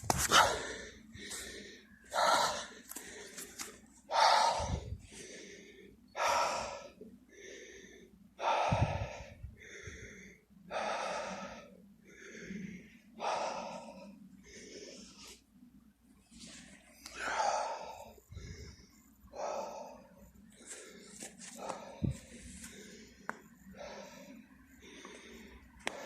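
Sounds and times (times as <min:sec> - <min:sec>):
man breathing hard: 0:00.2 - 0:15.5, 0:16.5 - 0:26.0.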